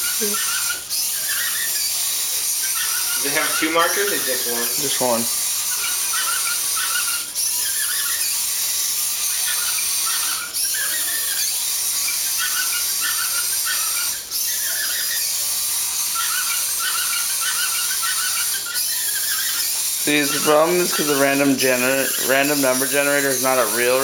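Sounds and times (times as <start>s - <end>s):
robot motors whining: 0.0s - 24.0s.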